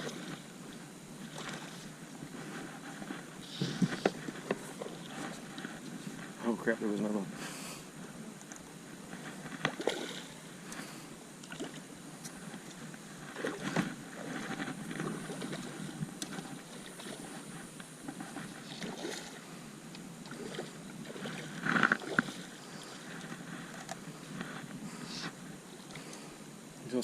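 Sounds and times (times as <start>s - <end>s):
water sloshing around a boat: 0.0s - 7.4s, 8.9s - 26.6s.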